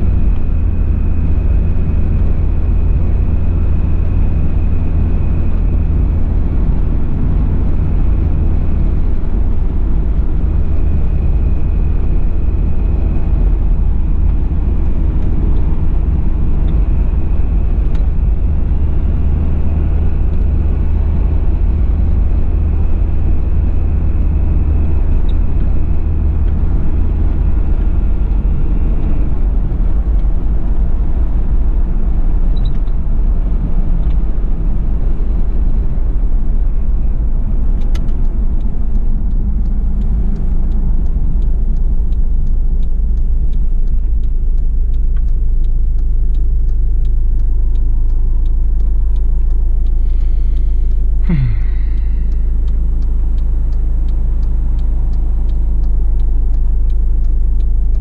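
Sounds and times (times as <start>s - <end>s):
diesel engine and road drone: 0.0s - 58.0s.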